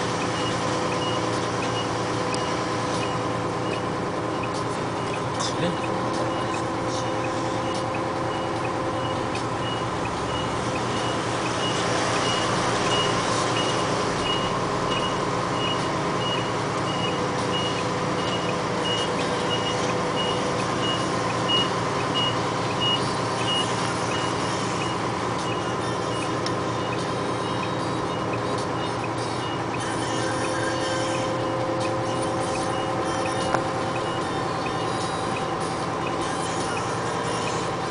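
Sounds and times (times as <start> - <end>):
heavy vehicle engine running: 0.0 - 37.9
reversing alarm beeping: 0.2 - 37.9.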